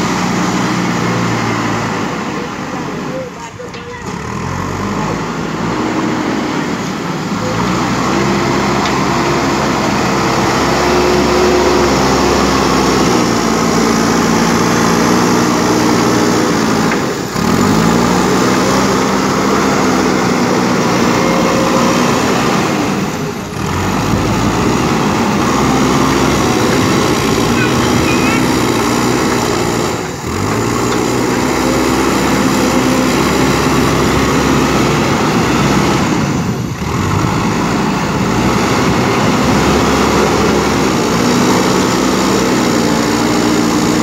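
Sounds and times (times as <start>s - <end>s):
diesel engine running under load: 0.0s - 44.0s.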